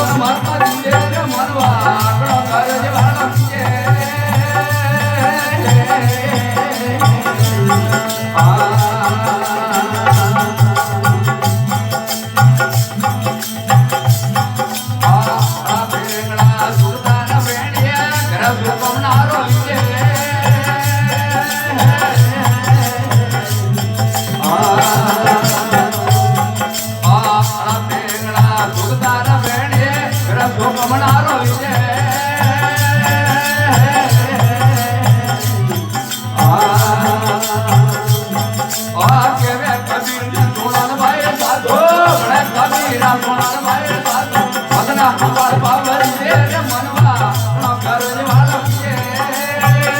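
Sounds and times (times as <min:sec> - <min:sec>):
devotional folk music: 0:00.0 - 0:49.9
rattling hand percussion: 0:00.0 - 0:49.9.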